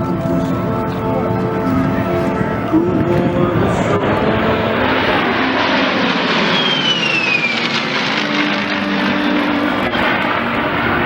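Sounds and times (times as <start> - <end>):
aircraft flying past: 0.0 - 11.0.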